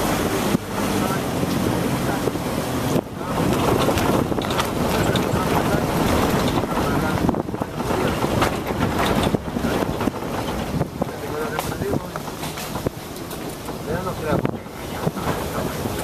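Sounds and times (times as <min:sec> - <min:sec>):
vehicle rumbling on dirt road: 0:00.0 - 0:16.0
wind buffeting microphone: 0:00.0 - 0:16.0.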